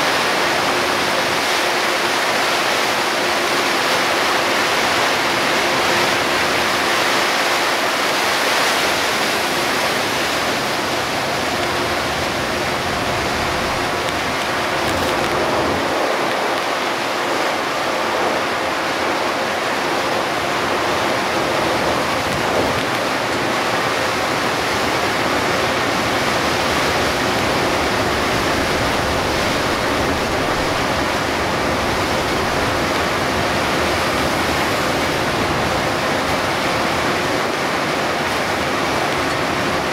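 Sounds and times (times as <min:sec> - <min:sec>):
heavy rain and tyre spray: 0:00.0 - 0:39.9.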